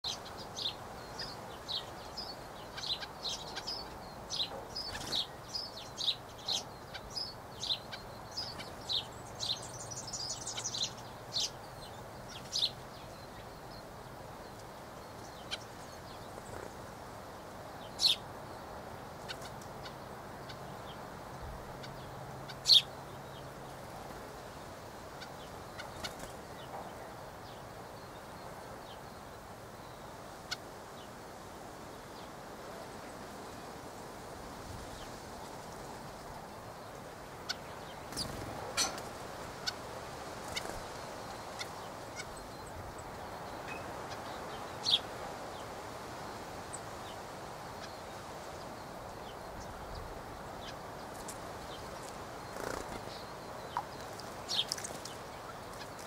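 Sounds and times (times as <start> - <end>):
small birds chirping: 0.0 - 31.2, 34.8 - 56.0
low background hiss: 0.0 - 56.0.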